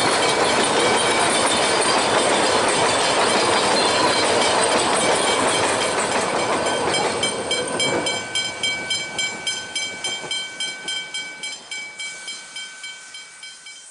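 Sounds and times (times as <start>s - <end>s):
steam train exhaust beats: 0.0s - 13.9s.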